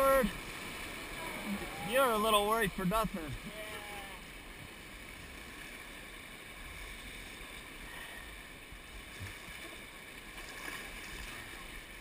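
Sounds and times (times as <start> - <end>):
river water rushing around raft: 0.0 - 12.0.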